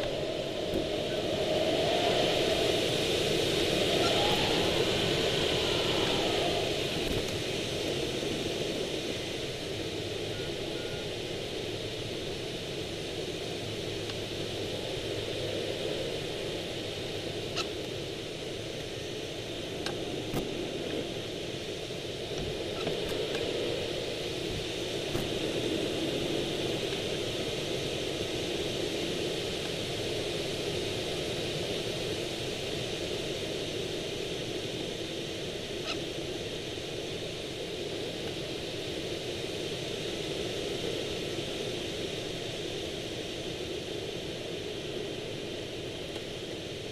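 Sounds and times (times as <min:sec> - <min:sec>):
airflow rushing around glider: 0:00.0 - 0:46.9.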